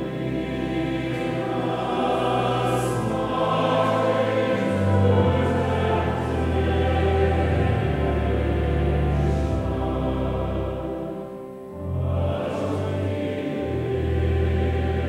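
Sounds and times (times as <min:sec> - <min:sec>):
choir singing slowly: 0:00.0 - 0:15.0.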